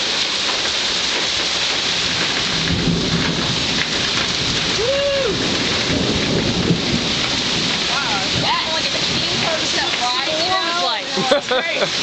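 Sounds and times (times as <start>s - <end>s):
heavy rain: 0.0s - 12.0s
thunder rumbling: 1.5s - 12.0s.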